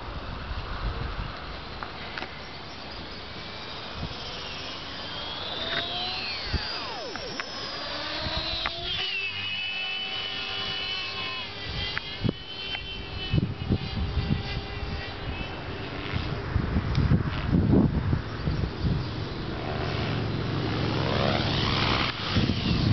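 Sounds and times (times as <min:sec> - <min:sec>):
helicopter motor whining: 0:02.0 - 0:17.5, 0:18.3 - 0:22.9.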